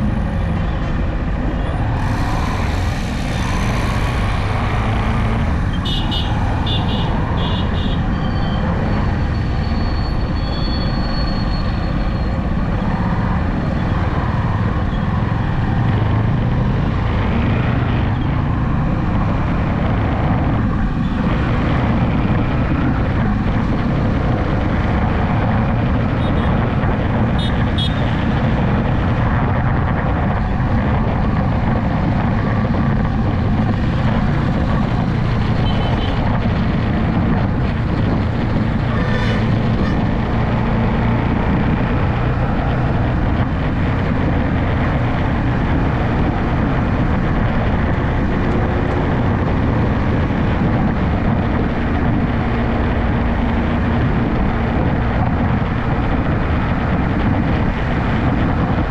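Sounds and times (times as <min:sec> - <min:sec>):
wind rush over microphone: 0:00.0 - 0:58.9.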